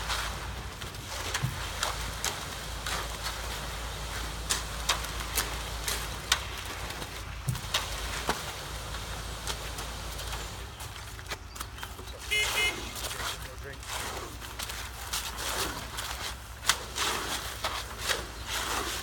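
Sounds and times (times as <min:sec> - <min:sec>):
concrete pump engine hum: 0:00.0 - 0:19.0.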